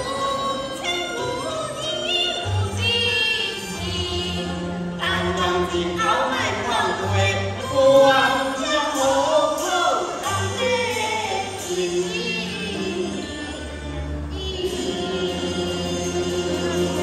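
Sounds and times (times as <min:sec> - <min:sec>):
instrumental accompaniment: 0:00.0 - 0:17.0
opera singing sliding in pitch: 0:00.0 - 0:17.0.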